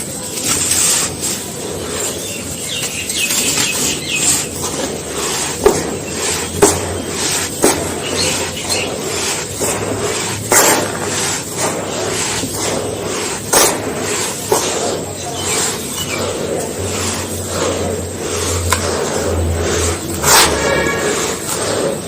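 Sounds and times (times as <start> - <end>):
gritty crunching of sandy block: 0.0 - 22.0.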